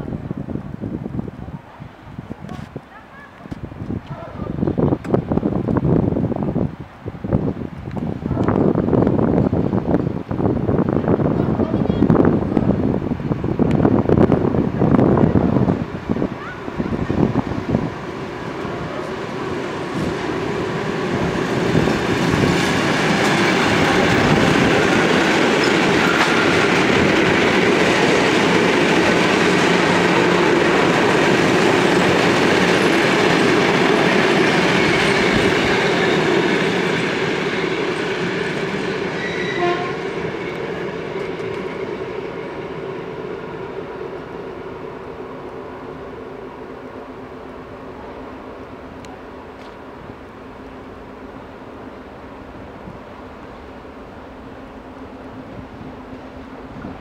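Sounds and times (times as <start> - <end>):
electric train running past: 3.1 - 57.0.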